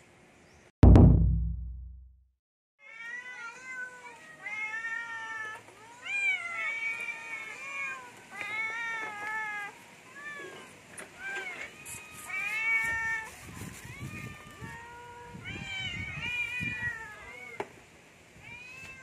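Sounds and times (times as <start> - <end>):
cats meowing: 2.8 - 17.7, 18.4 - 19.0.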